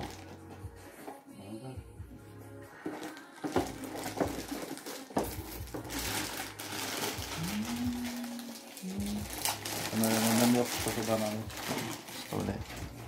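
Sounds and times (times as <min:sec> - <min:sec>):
plastic bag rustling: 0:00.0 - 0:01.2, 0:02.7 - 0:13.0.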